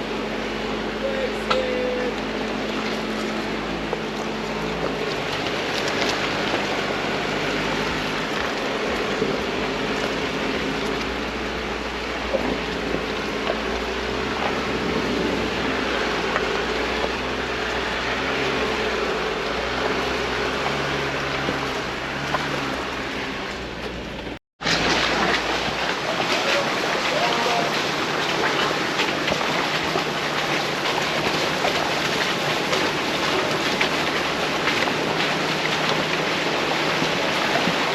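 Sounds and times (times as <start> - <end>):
car engine and road noise: 0.0 - 37.9
low hum: 0.0 - 37.9.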